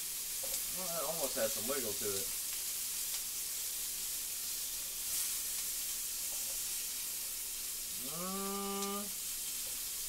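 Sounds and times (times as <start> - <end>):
asparagus sizzling in a skillet: 0.0 - 10.0.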